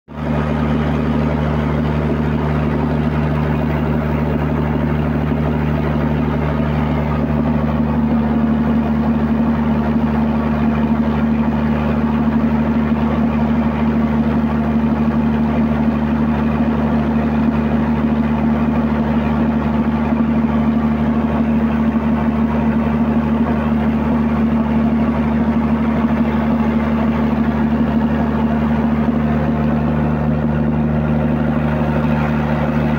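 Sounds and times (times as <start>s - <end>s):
diesel generator engine humming: 0.1s - 32.9s.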